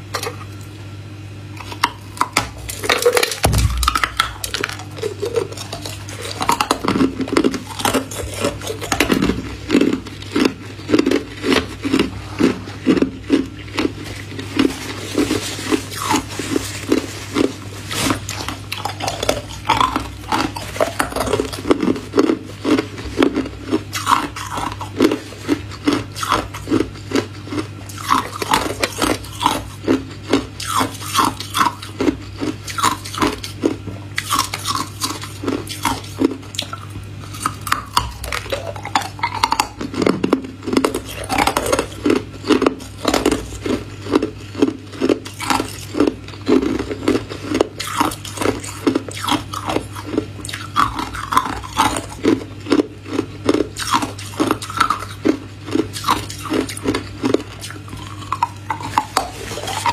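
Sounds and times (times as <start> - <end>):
ice cubes being chewed: 1.6 - 59.9.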